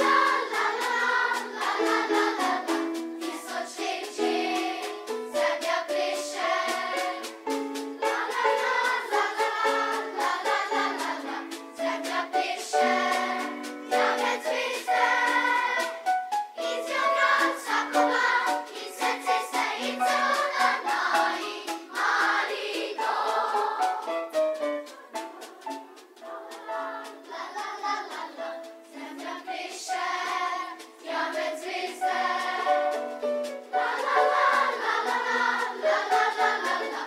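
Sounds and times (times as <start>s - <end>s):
band accompaniment: 0.0s - 37.0s
children's choir singing: 0.0s - 37.0s
drum kit beat: 0.0s - 37.0s.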